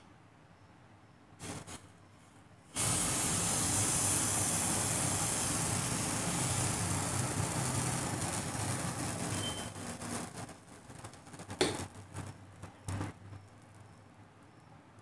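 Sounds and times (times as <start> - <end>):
steady rushing hiss: 1.4 - 15.0.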